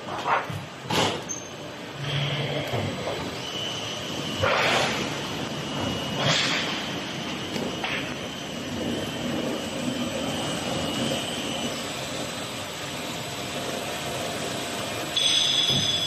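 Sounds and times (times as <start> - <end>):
machine whirring: 0.4 - 16.0
faint high whine: 1.3 - 16.0.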